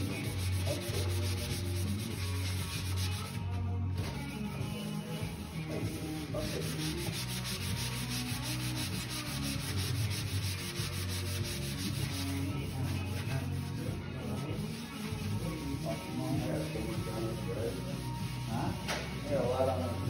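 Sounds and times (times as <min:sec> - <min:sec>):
cloth rubbing on wood: 0:00.0 - 0:03.5, 0:04.8 - 0:18.8.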